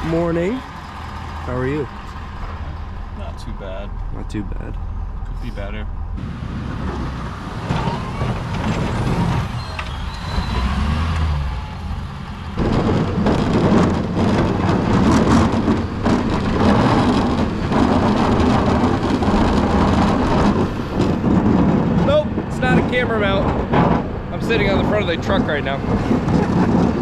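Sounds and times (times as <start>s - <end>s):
plow truck running: 0.0s - 27.0s.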